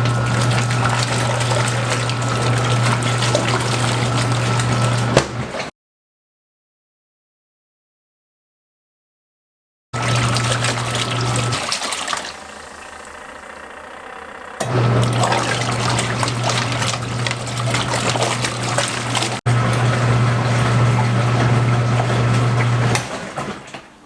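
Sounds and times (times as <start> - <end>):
washing machine motor humming: 0.0 - 5.7, 10.0 - 24.0
water churning in tub: 0.0 - 5.7, 10.0 - 24.0.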